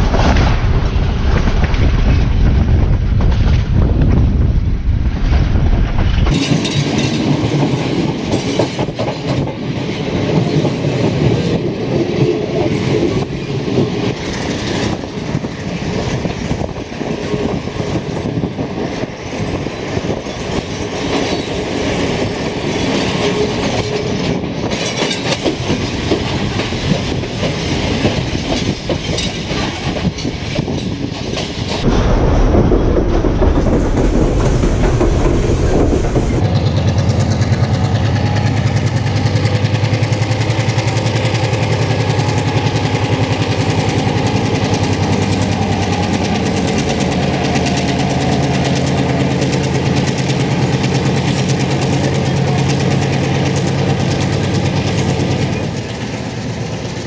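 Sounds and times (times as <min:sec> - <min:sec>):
deep rumble inside carriage: 0:00.0 - 0:57.0
train wheels clattering: 0:05.3 - 0:57.0.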